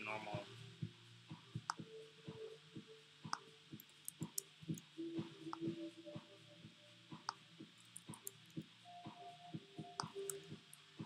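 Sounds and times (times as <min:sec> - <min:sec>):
faint plucked background music: 0:00.0 - 0:11.0.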